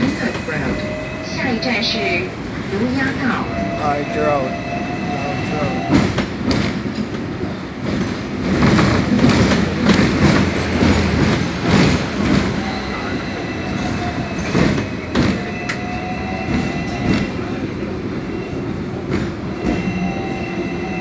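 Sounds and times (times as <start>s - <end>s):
tram rumbling and rattling on rails: 0.0s - 21.0s.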